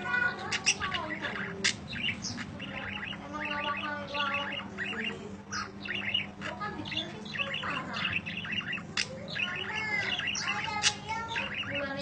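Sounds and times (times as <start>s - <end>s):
budgerigar warbling: 0.0s - 12.0s.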